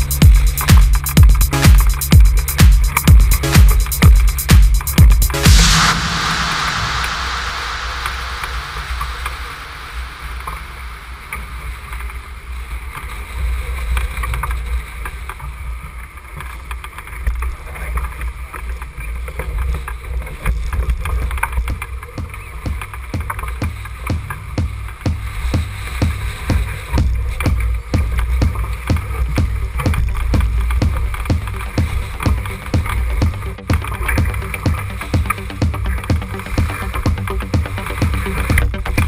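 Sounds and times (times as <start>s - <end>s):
water rushing along hull: 0.0s - 39.0s
wind rumbling on microphone: 4.0s - 39.0s.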